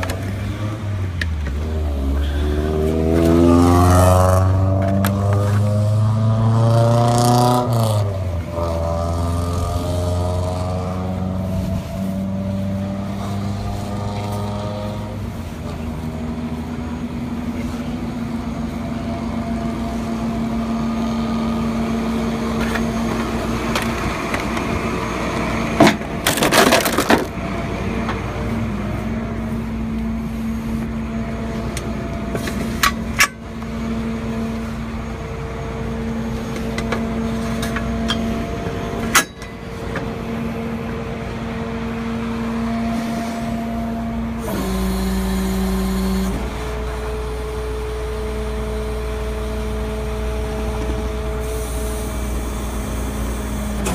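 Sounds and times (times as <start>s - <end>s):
diesel engine idling: 7.3s - 53.9s.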